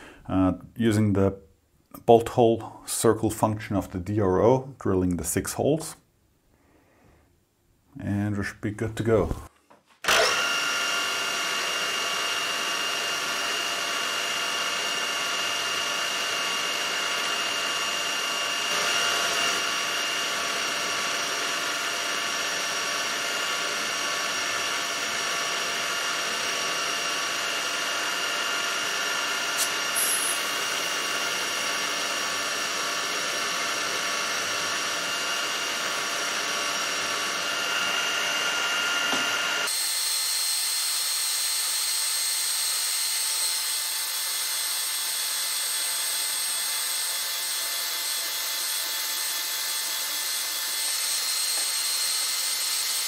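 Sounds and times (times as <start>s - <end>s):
drill boring into metal: 10.0s - 53.0s
milling machine spindle whine: 10.1s - 53.0s.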